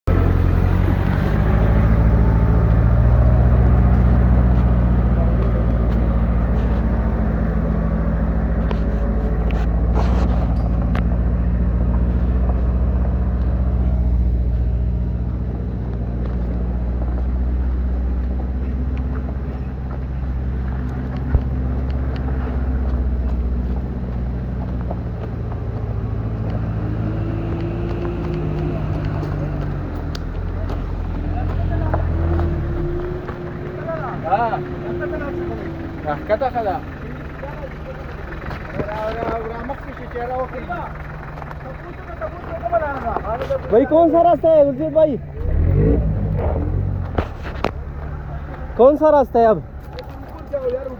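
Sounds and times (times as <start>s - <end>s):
vehicle engine under load: 0.1s - 50.9s.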